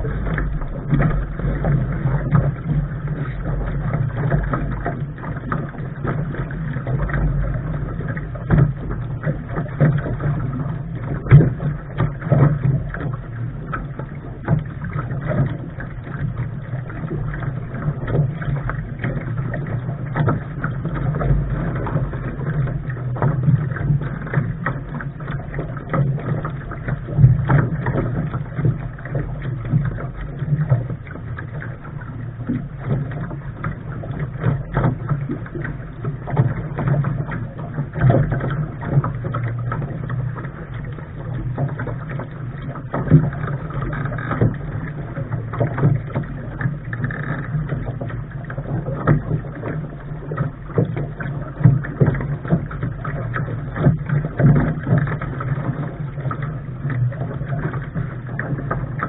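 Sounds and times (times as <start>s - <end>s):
hull and fittings knocking: 0.0s - 59.0s
low rumble of wind and water: 0.0s - 59.0s
water slapping at boat bow: 0.0s - 59.0s.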